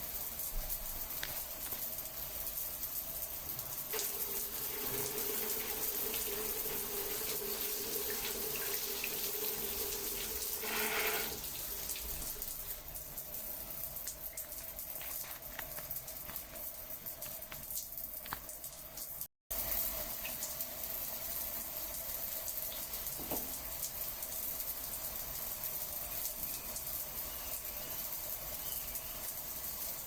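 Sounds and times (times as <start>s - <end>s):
water running and splashing: 0.0s - 30.0s.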